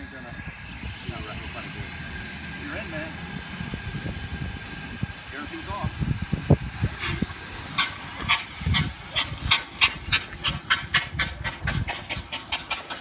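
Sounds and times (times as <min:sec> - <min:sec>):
steam exhaust chuffing: 0:00.0 - 0:13.0.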